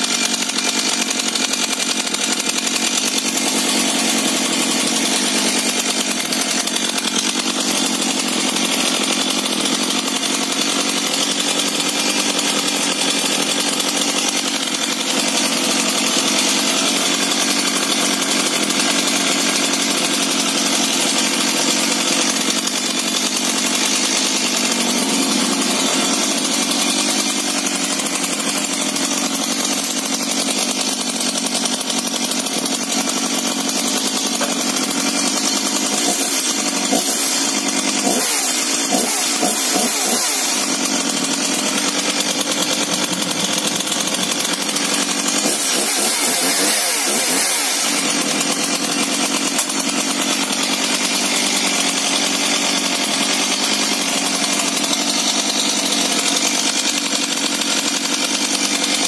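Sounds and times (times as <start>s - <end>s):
chainsaw engine running: 0.0s - 59.0s.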